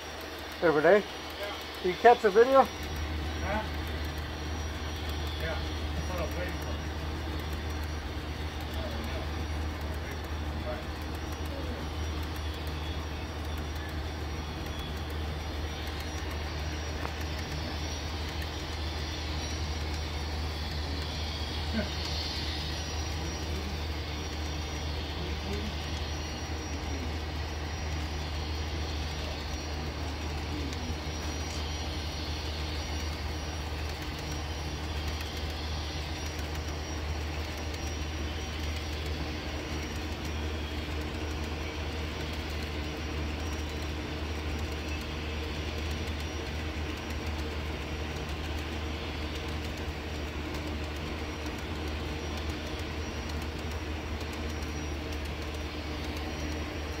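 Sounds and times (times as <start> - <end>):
constant low hum: 0.0 - 57.0
model train rolling rumble: 0.0 - 57.0.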